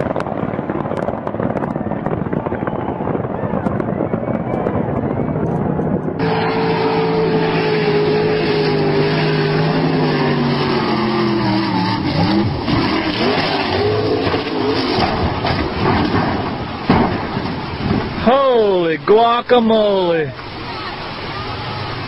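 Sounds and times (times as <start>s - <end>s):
racing boat engine running: 0.0s - 18.2s.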